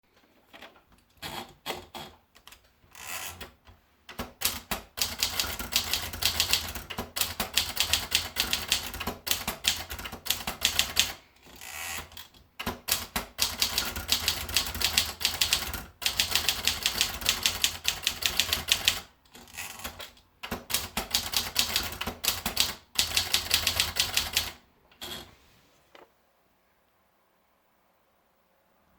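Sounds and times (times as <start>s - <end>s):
manual typewriter typing: 1.1s - 25.3s.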